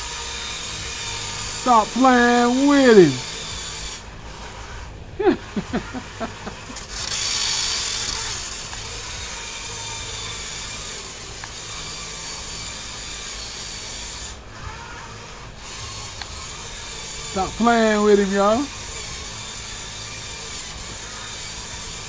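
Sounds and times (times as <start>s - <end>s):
toy car motor whine: 0.0s - 22.0s.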